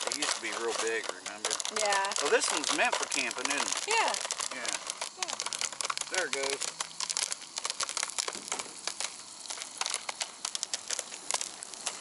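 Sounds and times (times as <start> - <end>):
foil crinkling: 0.0 - 12.0
popcorn popping: 0.0 - 12.0.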